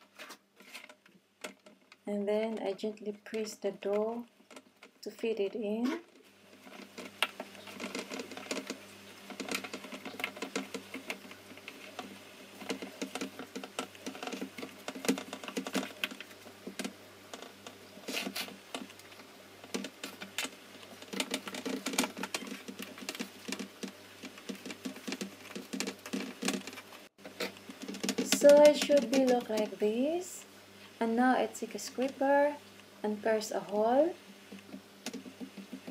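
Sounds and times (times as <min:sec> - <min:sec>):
fingers pressing dough in a pan: 0:00.7 - 0:29.8, 0:33.9 - 0:35.9.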